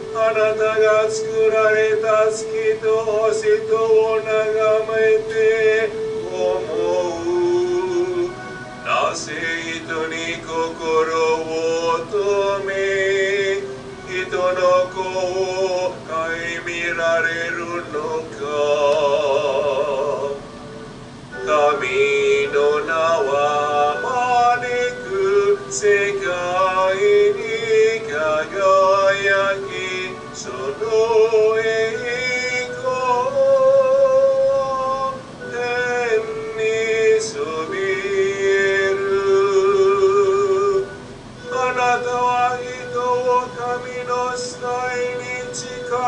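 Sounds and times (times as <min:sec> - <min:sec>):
person singing with vibrato: 0:00.0 - 0:46.0.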